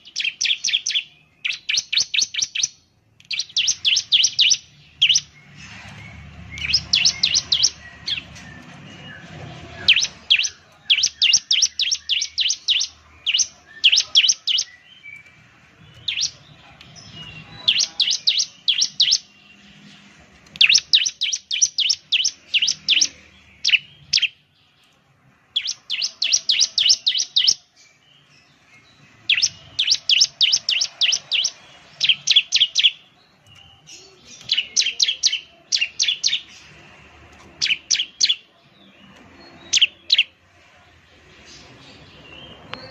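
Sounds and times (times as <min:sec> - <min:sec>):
bird singing rapid chipping notes: 0:00.0 - 0:40.5.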